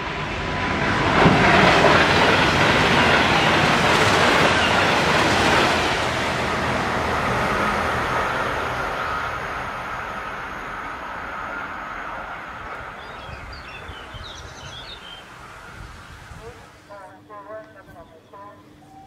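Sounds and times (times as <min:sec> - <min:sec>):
train passing with wheel and wind noise: 0:00.0 - 0:19.0.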